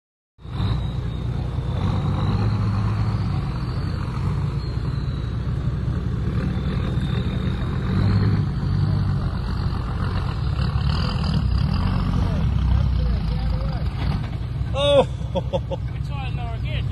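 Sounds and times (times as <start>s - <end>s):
engine low drone: 0.4s - 16.9s.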